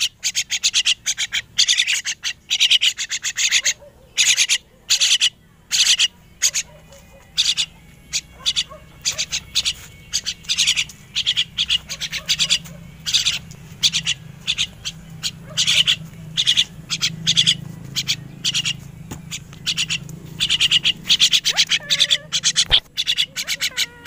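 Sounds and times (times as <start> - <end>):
young mynas begging calls: 0.0 - 24.0.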